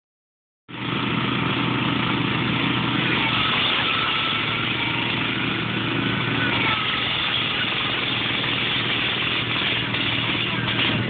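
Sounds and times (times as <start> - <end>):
garden tractor engines under load: 0.7 - 11.0.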